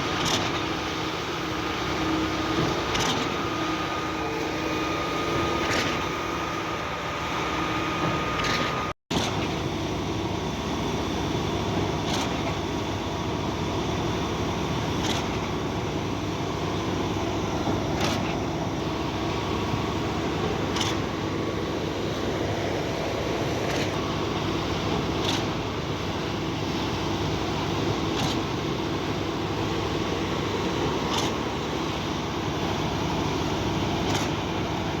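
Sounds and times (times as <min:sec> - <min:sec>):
concrete pump engine droning: 0:00.0 - 0:35.0.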